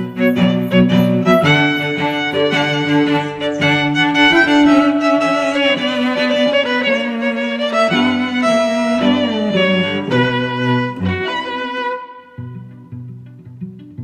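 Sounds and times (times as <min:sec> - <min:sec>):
violin playing long notes: 0:00.0 - 0:13.2.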